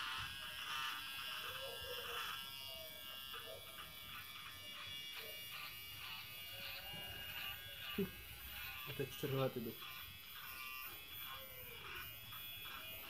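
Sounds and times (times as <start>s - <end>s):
electric hair clipper buzzing: 0.0s - 13.0s.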